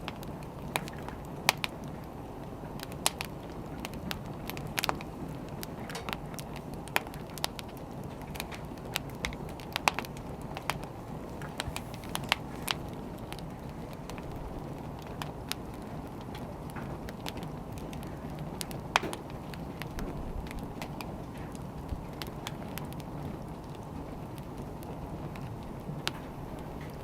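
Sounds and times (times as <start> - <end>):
firewood crackling and popping: 0.0 - 27.0
wood fire burning: 0.0 - 27.0.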